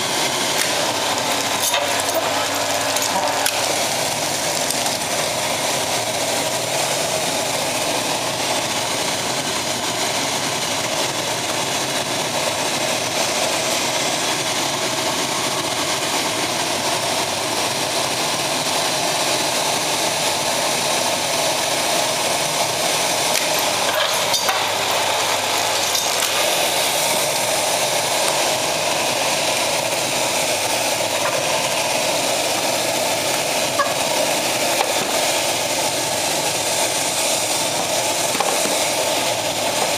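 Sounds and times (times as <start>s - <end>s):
pellet burner fan and flame hissing: 0.0s - 39.9s.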